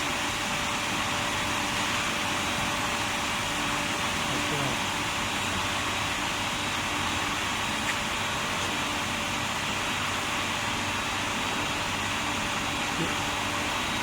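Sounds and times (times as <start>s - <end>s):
industrial machinery hum: 0.0s - 14.0s.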